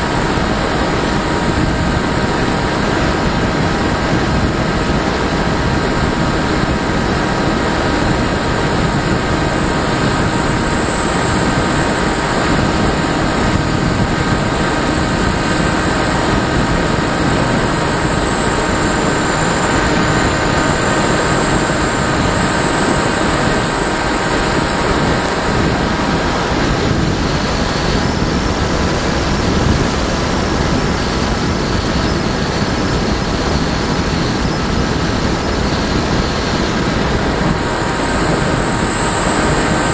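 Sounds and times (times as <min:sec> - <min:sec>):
high thin motor whine: 0:00.0 - 0:39.9
rush of air: 0:00.0 - 0:39.9.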